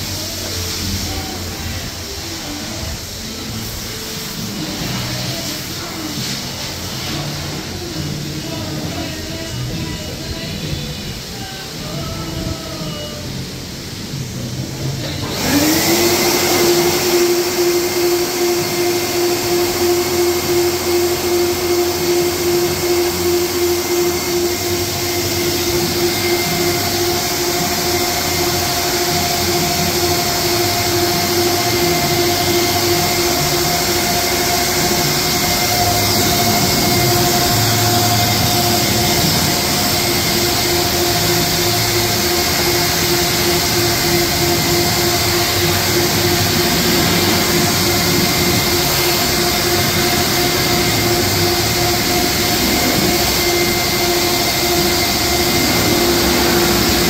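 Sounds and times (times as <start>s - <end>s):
air blower whine: 0.0s - 57.0s
loud rush of air: 0.0s - 57.0s.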